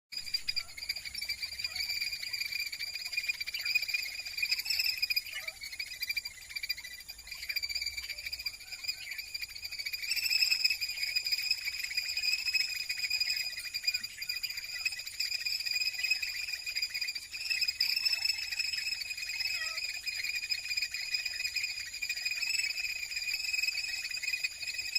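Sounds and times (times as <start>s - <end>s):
crickets trilling: 0.2s - 24.9s.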